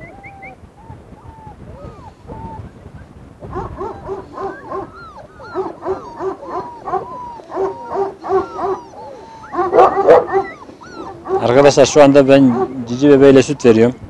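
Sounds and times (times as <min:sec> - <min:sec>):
puppies whimpering and whining: 0:00.0 - 0:14.0.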